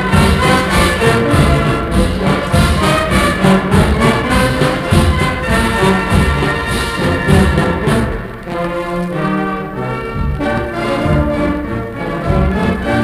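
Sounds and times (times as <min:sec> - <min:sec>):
brass band playing a march: 0:00.0 - 0:13.0.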